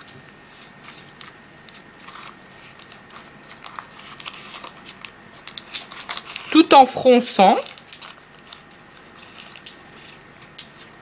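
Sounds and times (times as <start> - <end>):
baking parchment crinkling: 0.0 - 11.0.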